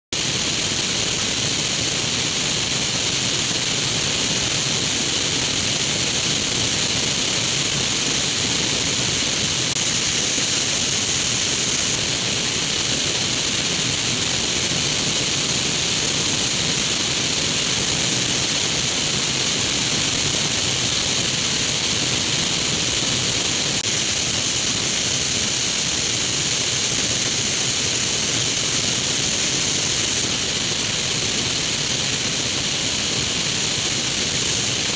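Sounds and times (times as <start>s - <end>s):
aircraft engine drone: 0.2s - 34.9s
airflow rushing: 2.3s - 31.2s.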